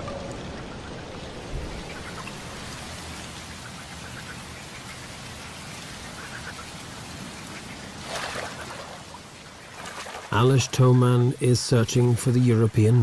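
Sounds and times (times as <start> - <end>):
steady watery hiss: 0.6 - 13.0.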